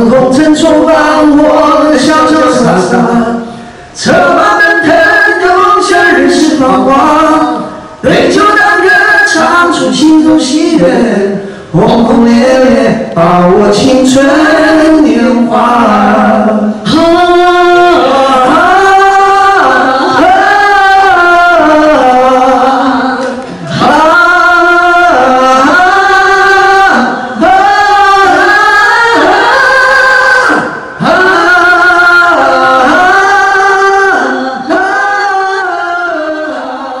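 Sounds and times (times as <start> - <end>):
two men singing in harmony: 0.0 - 37.0.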